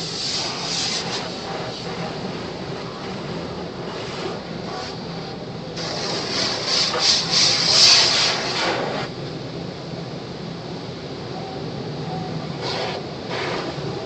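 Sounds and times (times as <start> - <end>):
car wash mechanical rumble: 0.0 - 14.0
car wash scrubbing and hissing: 0.0 - 14.0.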